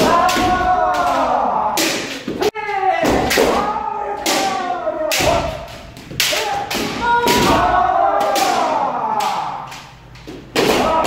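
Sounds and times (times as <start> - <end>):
bamboo swords hitting: 0.0 - 11.0.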